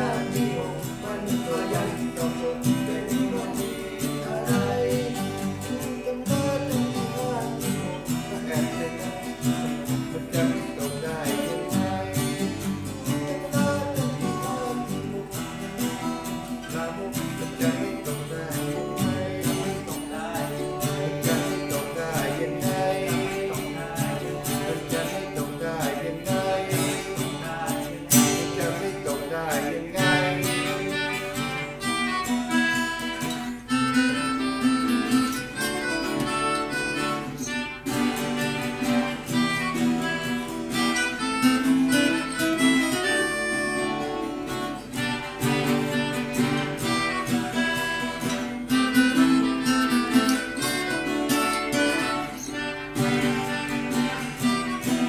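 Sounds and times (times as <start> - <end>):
acoustic guitars strumming: 0.0 - 55.0
melodica sustained notes: 0.0 - 55.0.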